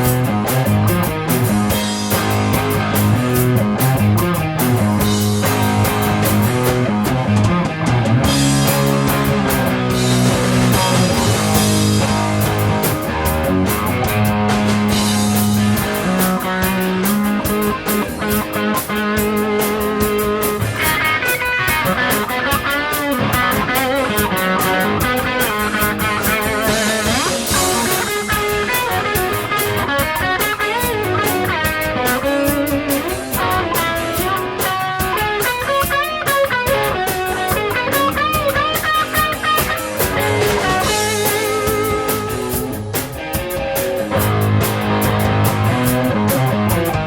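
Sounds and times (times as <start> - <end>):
electric guitar lead: 0.0 - 47.0
rock band playing: 0.0 - 47.0.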